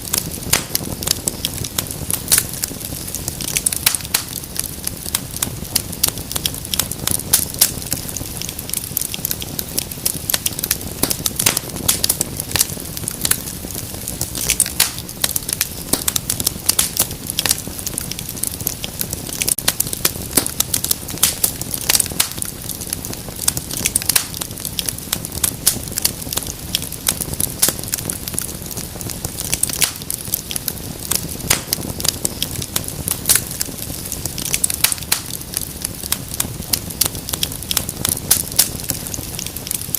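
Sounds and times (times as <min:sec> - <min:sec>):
fire popping and snapping: 0:00.0 - 0:39.9
flames rumbling: 0:00.0 - 0:39.9.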